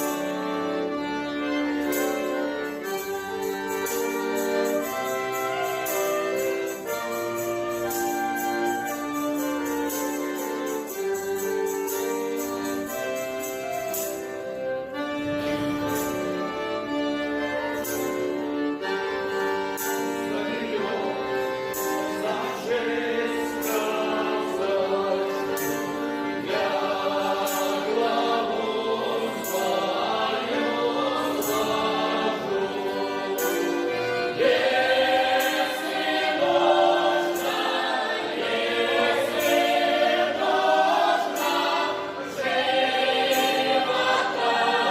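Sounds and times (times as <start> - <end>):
group singing in chorus: 0.0 - 18.4, 19.7 - 44.9
instrumental accompaniment: 0.0 - 44.9.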